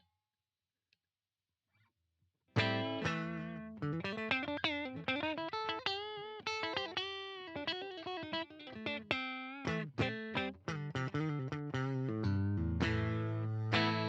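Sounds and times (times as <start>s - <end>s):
electric guitar lead notes: 2.6s - 14.0s.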